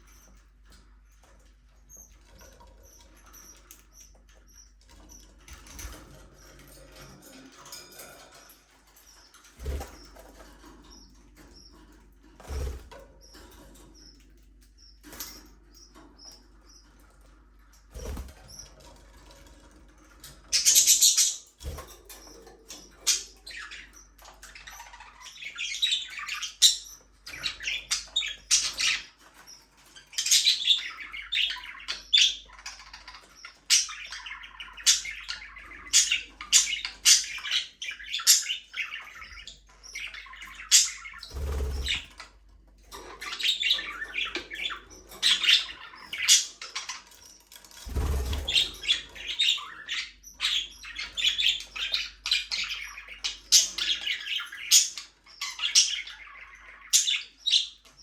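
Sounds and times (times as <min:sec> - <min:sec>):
budgerigars chirping: 0:00.0 - 0:18.9, 0:20.0 - 0:42.4, 0:43.0 - 0:58.0.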